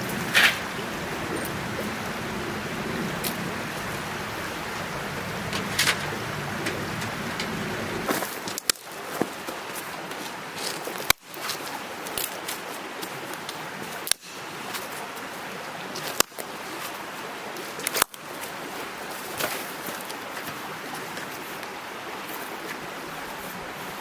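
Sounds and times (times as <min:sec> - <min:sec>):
mountain stream babbling: 0:00.0 - 0:24.0.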